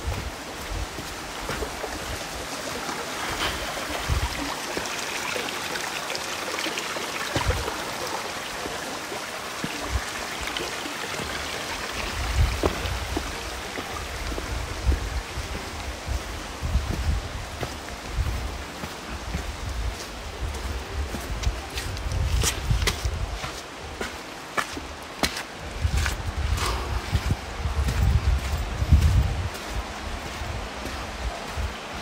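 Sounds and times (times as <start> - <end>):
creek water rushing: 0.0 - 32.0.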